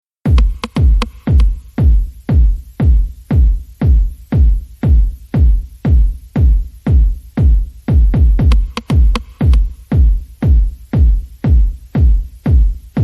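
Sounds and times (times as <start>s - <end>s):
electronic dance music: 0.2s - 13.0s
pounding kick drum: 0.2s - 13.0s.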